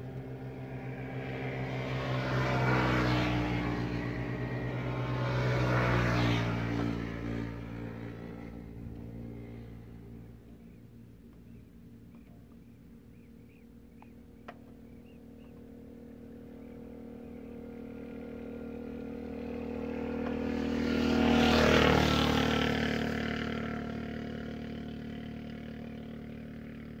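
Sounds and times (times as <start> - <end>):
vehicle engine passing: 0.0 - 27.0.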